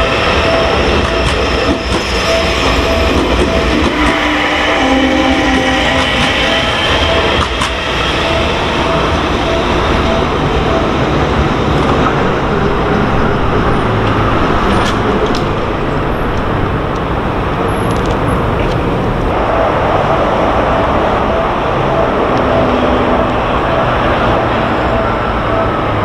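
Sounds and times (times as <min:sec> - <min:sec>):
level crossing warning bell: 0:00.0 - 0:16.9, 0:19.3 - 0:26.0
electric train running past: 0:00.0 - 0:26.0.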